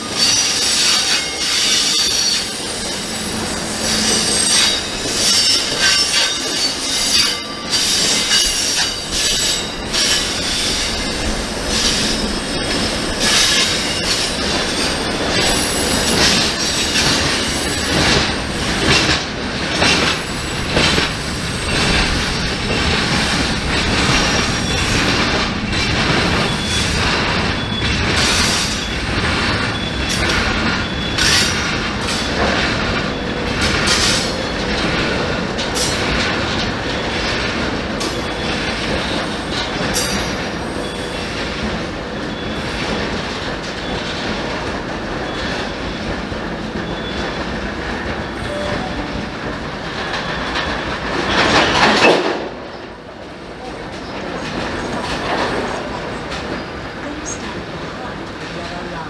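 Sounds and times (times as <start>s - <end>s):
wheels clacking over rail joints: 0.0s - 59.0s.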